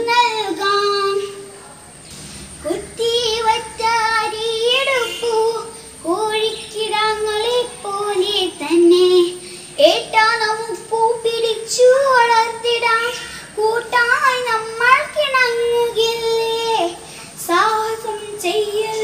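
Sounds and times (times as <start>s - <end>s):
girl singing: 0.0s - 1.6s, 2.6s - 19.0s.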